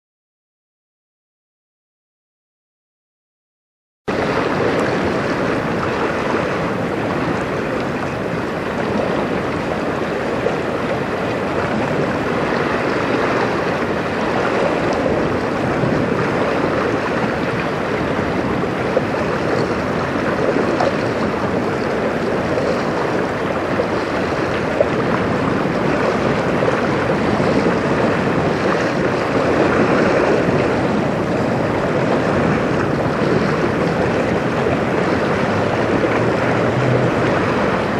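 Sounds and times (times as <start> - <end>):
waves on open water: 4.1 - 37.9
wind: 4.1 - 37.9.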